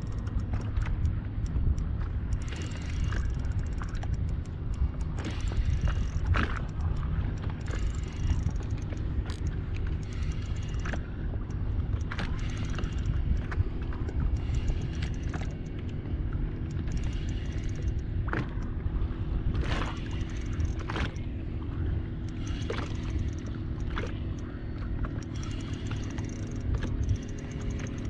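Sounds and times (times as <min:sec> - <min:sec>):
fishing reel clicking: 0:00.0 - 0:16.0, 0:16.6 - 0:18.7, 0:19.5 - 0:21.3, 0:22.2 - 0:28.0
water against hull: 0:00.0 - 0:28.0
wind: 0:00.0 - 0:28.0.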